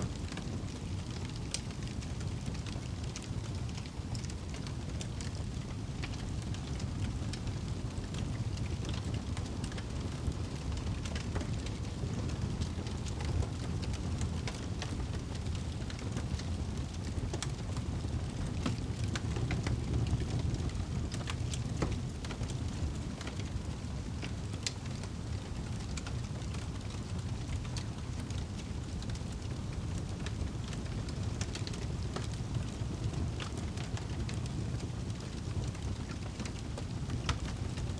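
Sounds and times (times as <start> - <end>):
fire crackling in a fireplace: 0.0 - 37.9.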